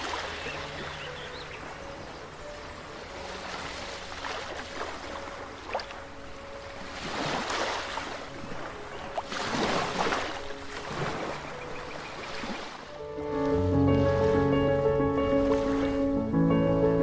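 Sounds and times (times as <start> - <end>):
ocean waves: 0.0 - 17.0
soft ambient music: 0.0 - 17.0.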